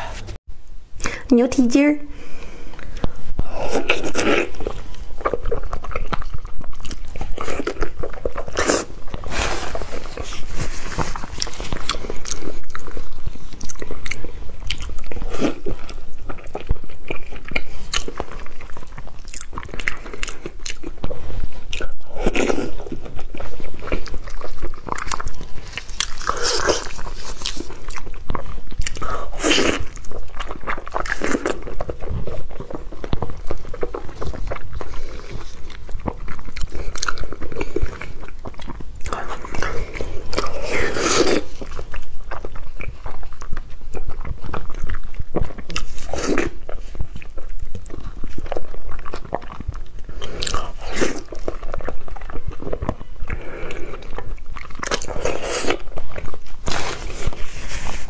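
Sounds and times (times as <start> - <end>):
close-miked biting and chewing: 2.6 - 58.0.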